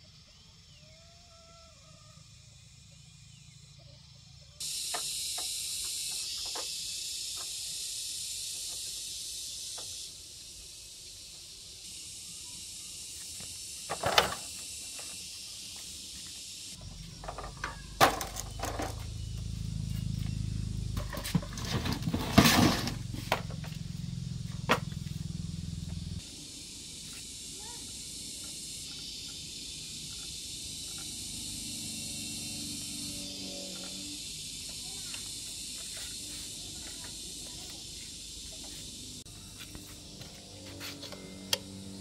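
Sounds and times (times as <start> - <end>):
insects hissing: 0.0 - 42.0.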